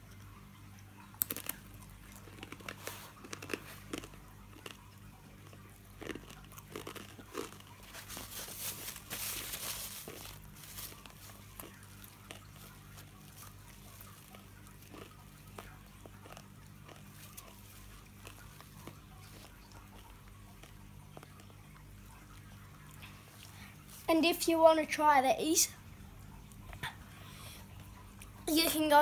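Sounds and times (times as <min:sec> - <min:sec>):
corn chip crunching and chewing: 0:00.0 - 0:24.1.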